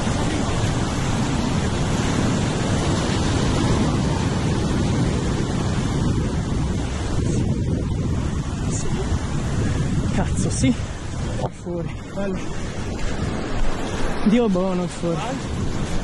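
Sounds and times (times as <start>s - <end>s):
ocean surf breaking over rocks: 0.0s - 16.0s
wind buffeting microphone: 0.0s - 16.0s.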